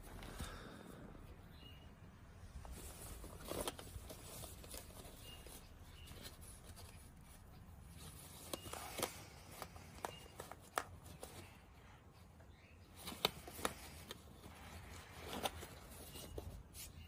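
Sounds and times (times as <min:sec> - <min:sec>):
paper tags rustling: 0:02.5 - 0:17.0.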